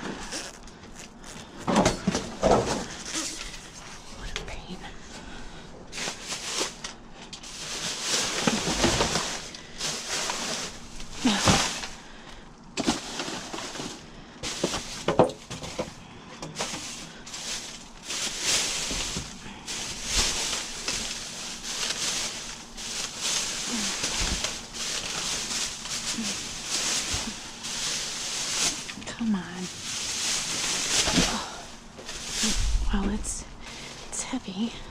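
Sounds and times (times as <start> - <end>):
plastic bags rustling: 0.0 - 34.9.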